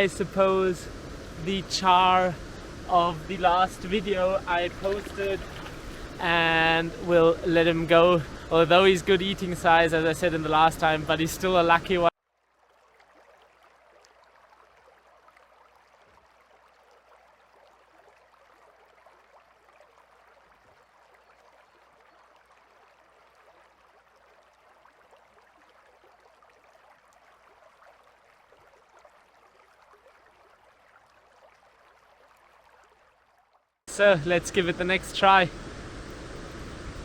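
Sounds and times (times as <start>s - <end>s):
faint stream water rushing: 0.0s - 37.0s.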